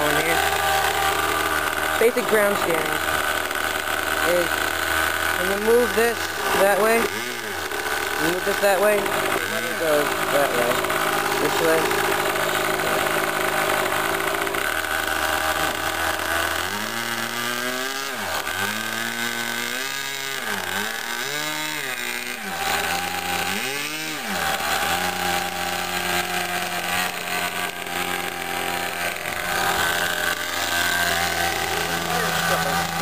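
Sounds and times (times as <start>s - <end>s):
model aircraft engine running: 0.0s - 33.0s.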